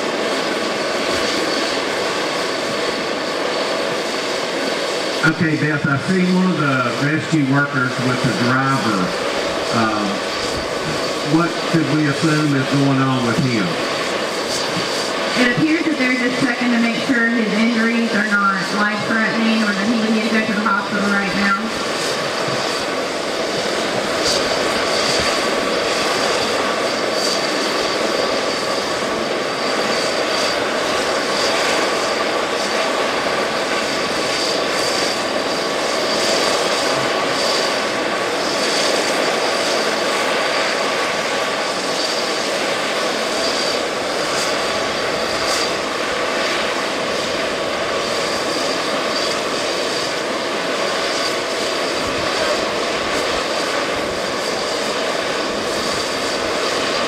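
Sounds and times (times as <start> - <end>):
helicopter turbine engines whining: 0.0 - 57.0.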